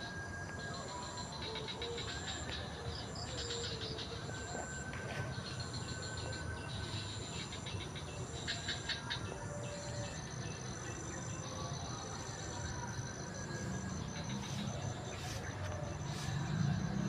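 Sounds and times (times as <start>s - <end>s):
insects trilling: 0.1s - 17.0s.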